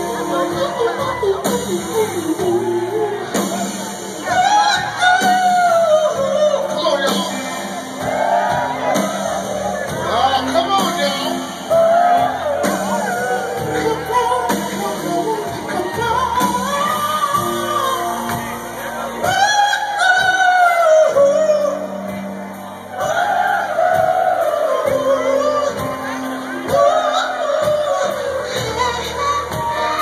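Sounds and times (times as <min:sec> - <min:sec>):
man singing into microphone: 0:00.0 - 0:07.8, 0:09.9 - 0:22.4, 0:23.0 - 0:30.0
rock band playing: 0:00.0 - 0:30.0.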